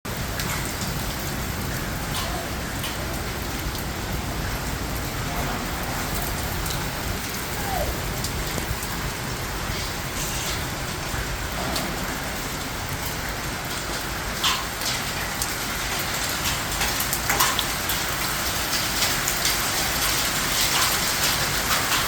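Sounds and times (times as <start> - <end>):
heavy rain: 0.1 - 22.0
raindrops ticking on surface: 0.1 - 22.0.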